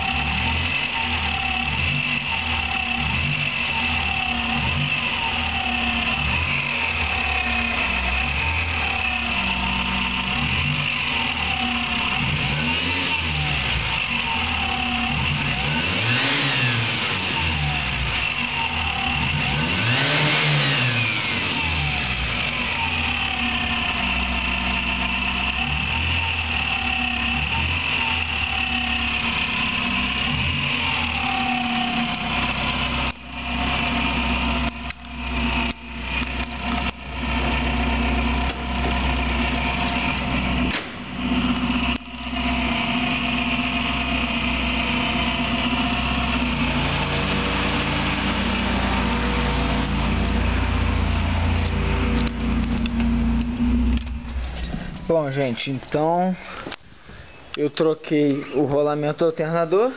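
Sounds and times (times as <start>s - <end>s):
repeating chirp from engine: 0.0s - 48.4s, 56.4s - 58.8s
engine revving: 0.0s - 56.8s
car engine idling: 0.0s - 59.9s.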